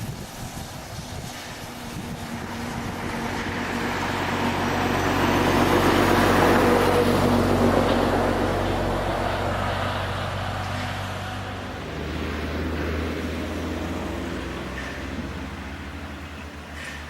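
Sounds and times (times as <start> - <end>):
train engine drone: 0.0 - 17.0.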